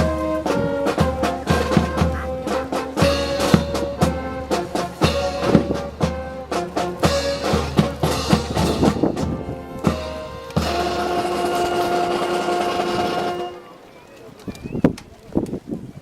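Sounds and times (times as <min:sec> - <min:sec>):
brass band playing a march: 0:00.0 - 0:13.9.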